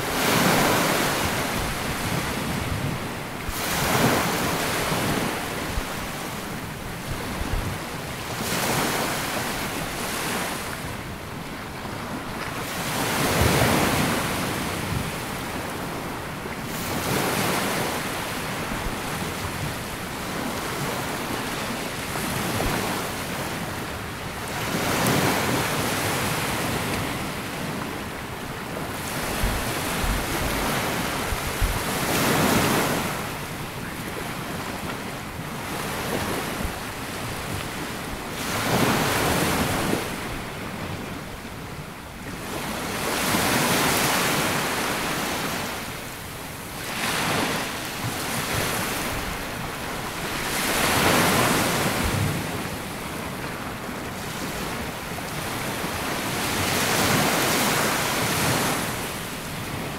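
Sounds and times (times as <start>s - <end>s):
sea waves washing on beach: 0.0s - 59.9s.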